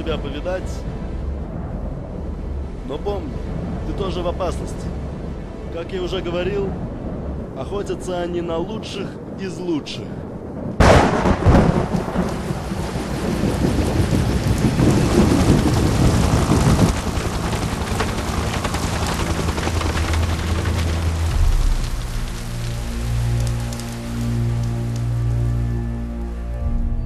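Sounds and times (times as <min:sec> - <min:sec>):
thunderclap rumbling: 0:00.0 - 0:26.0
heavy rain: 0:00.0 - 0:27.0.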